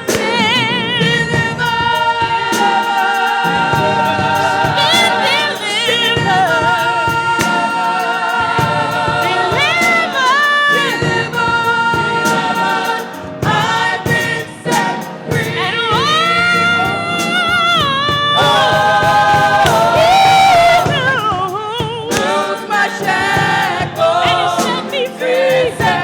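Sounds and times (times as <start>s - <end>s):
choir singing gospel song: 0.0s - 26.0s
sustained accompaniment: 0.0s - 26.0s.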